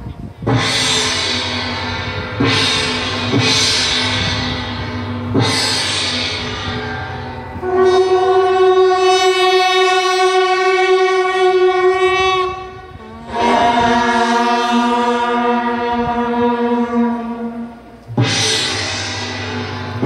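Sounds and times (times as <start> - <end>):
brass horns holding long notes: 0.6 - 20.0.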